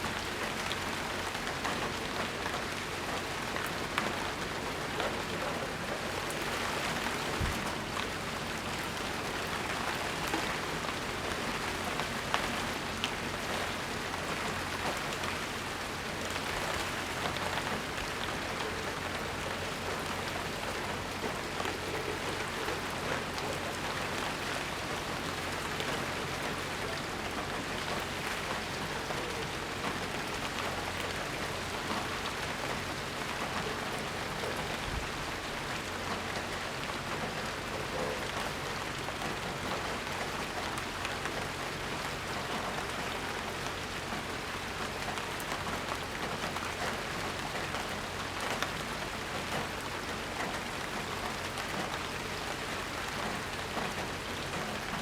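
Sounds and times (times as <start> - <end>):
rain pattering on surfaces: 0.0 - 55.0.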